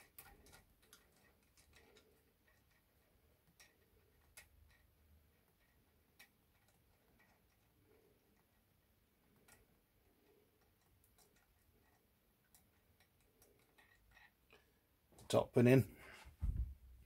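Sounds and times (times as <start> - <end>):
faint metal clicks: 0.0 - 15.8.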